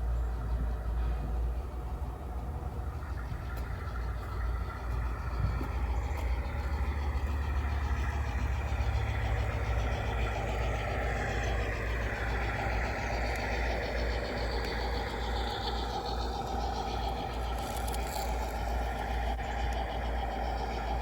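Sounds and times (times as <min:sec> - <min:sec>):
model locomotive humming: 0:00.0 - 0:21.0.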